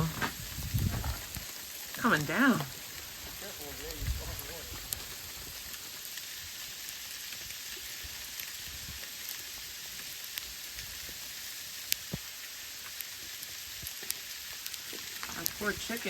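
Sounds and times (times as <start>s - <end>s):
ice pellets ticking on surfaces: 0.0s - 16.0s
sleety snow hissing: 0.0s - 16.0s.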